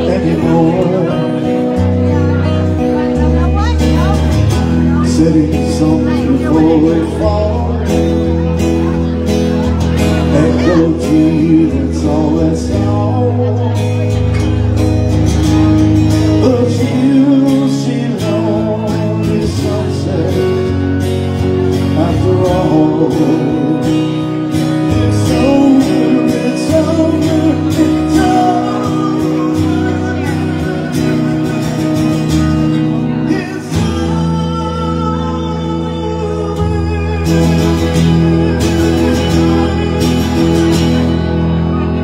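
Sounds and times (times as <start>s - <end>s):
man singing into microphone: 0.0s - 3.8s, 4.5s - 9.2s, 10.0s - 14.5s, 15.4s - 41.9s
bass line: 0.0s - 42.0s
electric guitar: 0.0s - 42.0s.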